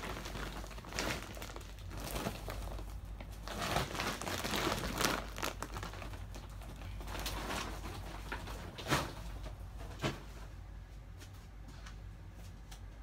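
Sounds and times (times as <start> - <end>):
plastic rustling and crinkling: 0.0 - 10.6.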